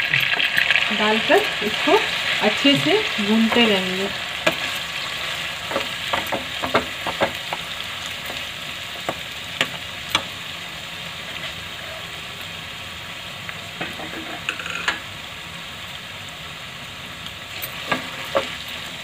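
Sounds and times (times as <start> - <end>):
carrots sizzling in hot fat: 0.0 - 19.0.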